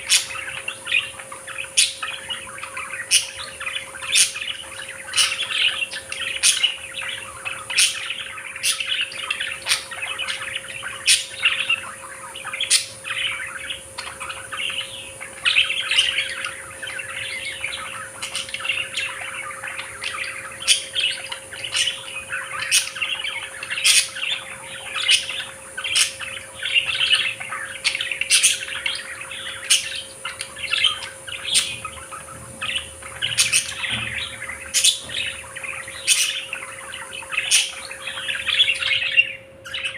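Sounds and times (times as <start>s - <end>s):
budgerigars chattering and warbling: 0.0s - 39.9s
high-pitched bird chirps: 0.0s - 39.9s.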